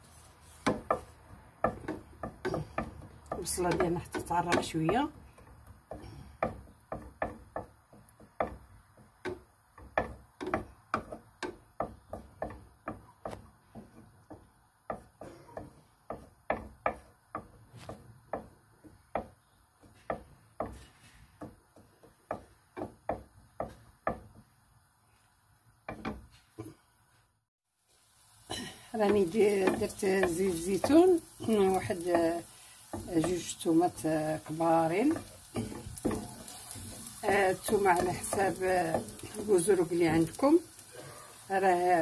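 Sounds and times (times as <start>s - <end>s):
wooden spatula scraping clay dish: 0.0s - 24.5s, 29.0s - 41.4s.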